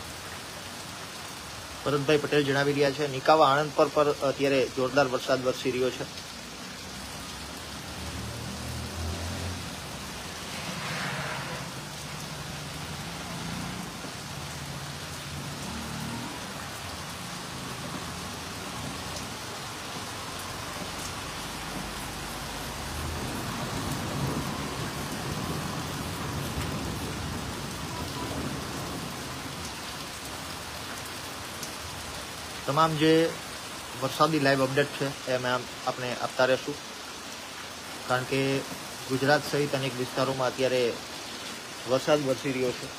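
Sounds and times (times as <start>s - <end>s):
heavy rain on roofs: 0.0s - 42.9s.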